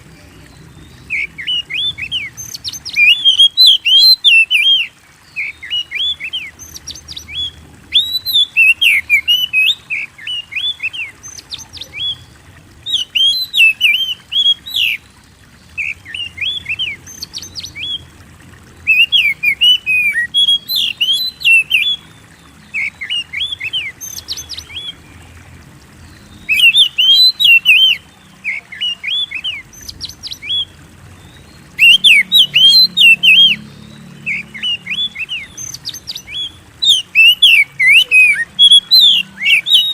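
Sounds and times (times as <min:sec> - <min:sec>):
magpie-robin singing: 0:00.9 - 0:15.0, 0:18.8 - 0:22.0, 0:22.7 - 0:24.9, 0:26.4 - 0:30.7, 0:31.3 - 0:39.9.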